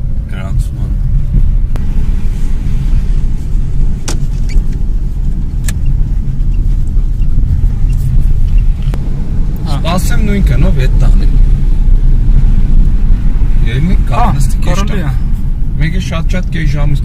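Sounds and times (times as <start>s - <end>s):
car engine running: 0.0s - 17.0s
road rumble: 0.0s - 17.0s.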